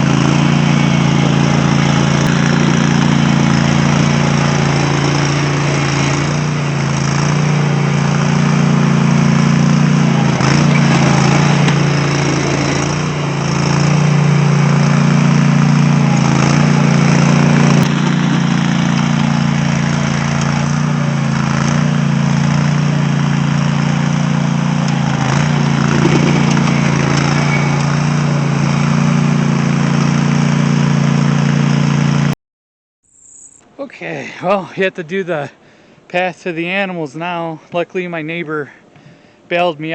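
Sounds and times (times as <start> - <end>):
lawn tractor engine running: 0.0 - 32.3
plow blade pushing snow: 0.0 - 32.3.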